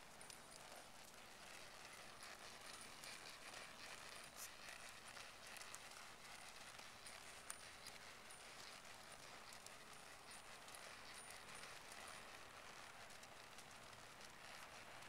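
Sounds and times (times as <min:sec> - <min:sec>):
horse hoofbeats on soft dirt: 0:00.0 - 0:15.0.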